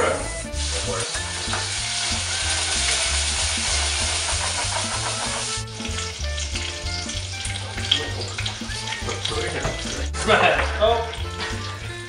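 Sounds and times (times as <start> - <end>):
background music with low beat: 0.0 - 12.0
food sizzling in a frying pan: 0.3 - 10.2.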